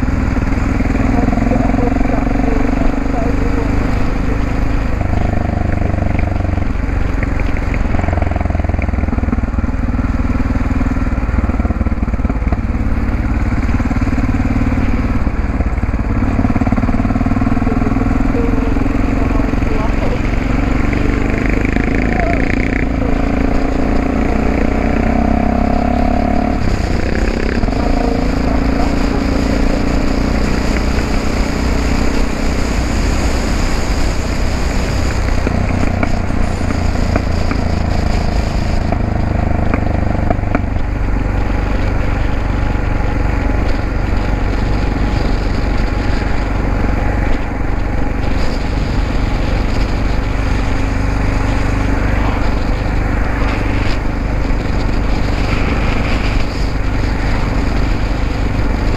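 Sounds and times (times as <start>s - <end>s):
motorcycle engine and exhaust riding: 0.0s - 58.9s.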